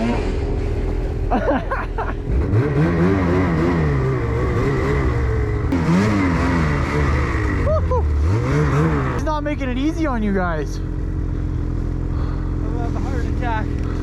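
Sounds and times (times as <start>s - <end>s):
snowmobile engine revving: 0.0s - 14.0s.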